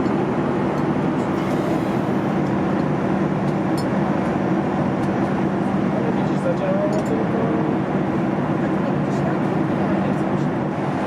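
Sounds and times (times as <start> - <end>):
airliner cabin engine and airflow noise: 0.0 - 11.0.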